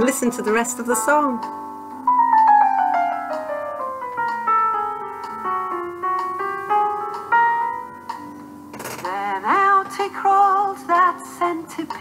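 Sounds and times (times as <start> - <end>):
slow gentle keyboard piano: 0.0 - 12.0.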